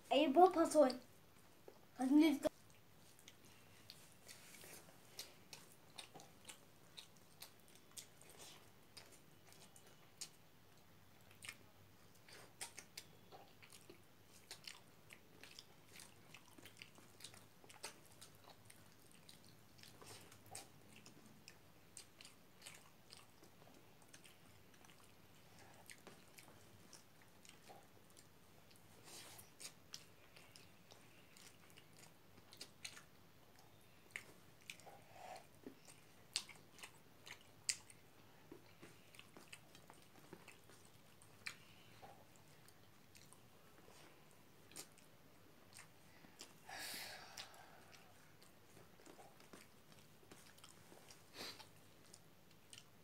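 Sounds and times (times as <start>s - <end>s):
chewing and mouth clicks: 2.5s - 46.6s, 47.2s - 53.0s.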